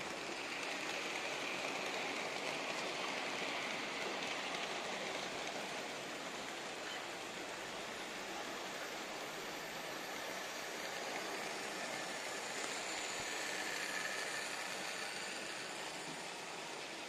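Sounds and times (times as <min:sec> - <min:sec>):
model train motor and wheels rattling: 0:00.0 - 0:17.0.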